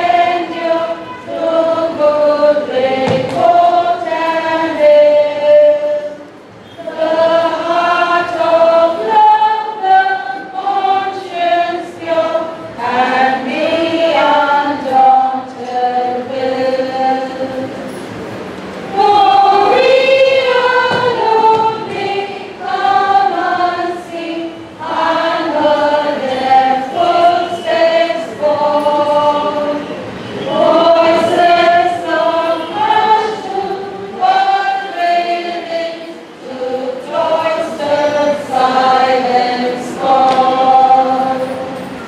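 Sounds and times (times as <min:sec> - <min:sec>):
women's choir singing: 0:00.0 - 0:42.0.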